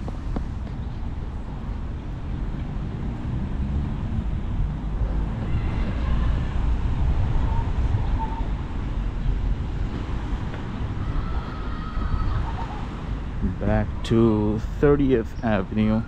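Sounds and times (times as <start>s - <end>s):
wind on microphone: 0.0s - 14.1s
faint street traffic: 0.0s - 16.0s.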